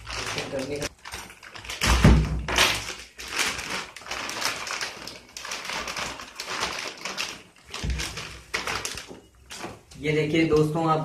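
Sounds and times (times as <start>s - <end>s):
plastic wrapper crinkling: 0.0s - 10.7s.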